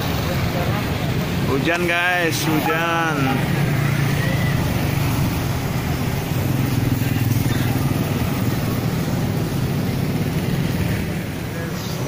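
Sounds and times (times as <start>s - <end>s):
motorcycle engines passing: 0.0s - 12.0s
road noise: 0.0s - 12.0s.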